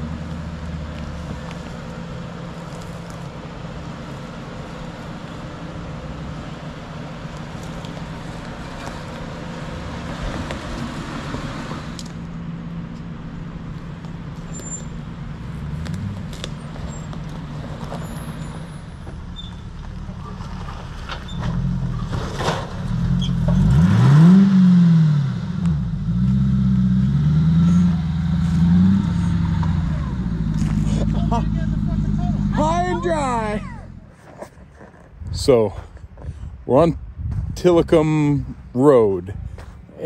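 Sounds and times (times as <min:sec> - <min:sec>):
car engines at low revs: 0:00.0 - 0:40.0.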